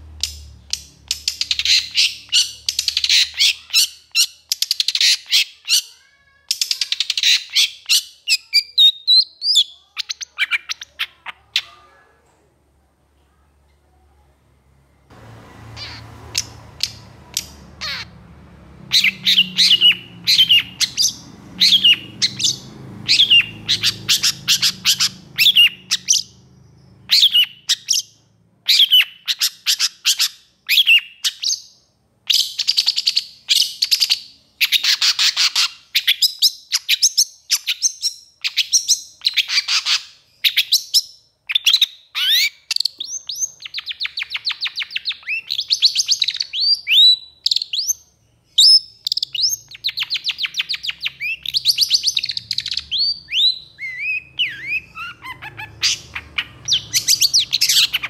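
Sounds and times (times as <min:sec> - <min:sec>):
bird chattering song: 0:00.0 - 0:11.9, 0:15.7 - 0:18.2, 0:18.8 - 0:58.0.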